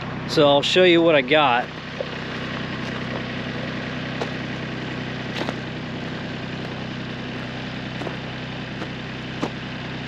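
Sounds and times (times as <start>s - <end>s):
diesel tractor engine idling: 0.0s - 10.0s.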